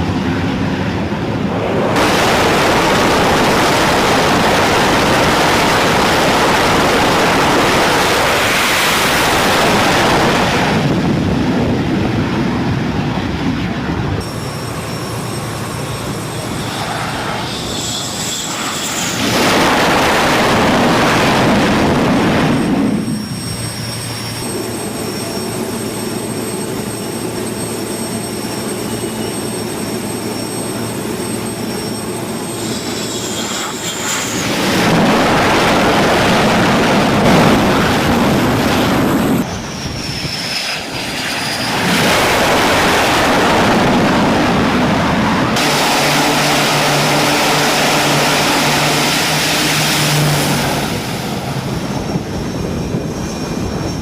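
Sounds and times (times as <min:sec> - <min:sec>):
aircraft engines running: 0:00.0 - 0:54.0
high whine: 0:00.0 - 0:54.0.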